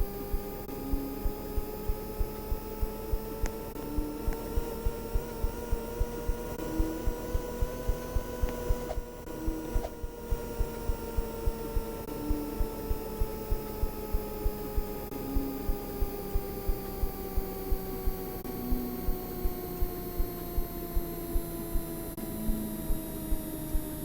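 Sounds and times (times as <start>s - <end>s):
washing machine motor whine: 0.0s - 24.0s.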